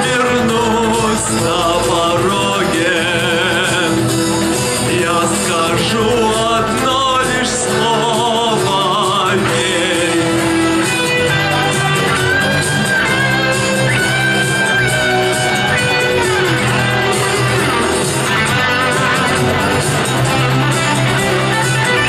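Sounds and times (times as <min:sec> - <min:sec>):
guitar-led backing music: 0:00.0 - 0:22.0
man singing with vibrato: 0:00.0 - 0:22.0.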